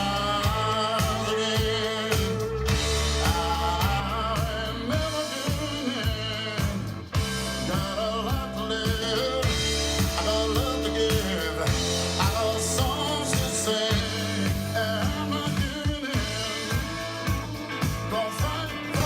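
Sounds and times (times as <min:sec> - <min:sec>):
blues-rock band playing: 0:00.0 - 0:19.0
drums: 0:00.0 - 0:19.0
man singing: 0:00.0 - 0:19.0.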